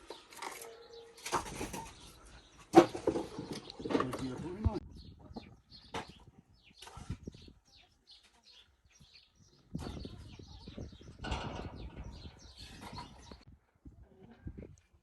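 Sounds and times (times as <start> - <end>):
small birds chirping: 0.0 - 13.5.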